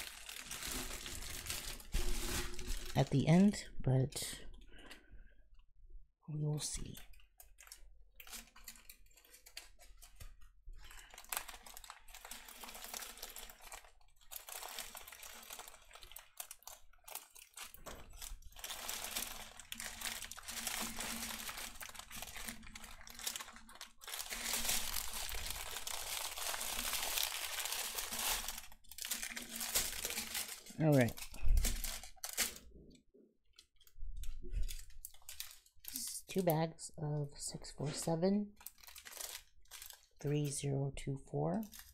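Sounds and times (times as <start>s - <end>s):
plastic bags crinkling: 0.0s - 3.6s, 6.8s - 32.8s, 33.6s - 40.8s, 41.5s - 41.9s.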